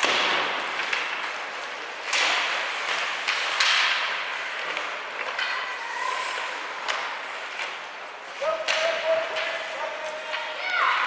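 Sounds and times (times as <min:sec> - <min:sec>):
skate scrape with echo: 0:00.0 - 0:11.0.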